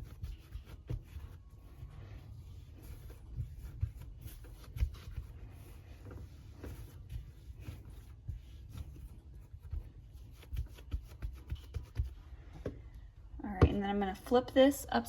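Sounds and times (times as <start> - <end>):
hands patting dough: 0.0 - 13.0.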